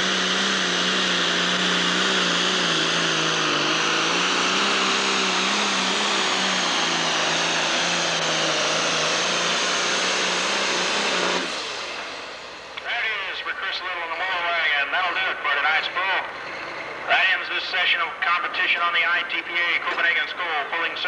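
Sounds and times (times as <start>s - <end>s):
tractor diesel engine running under load: 0.0s - 21.0s.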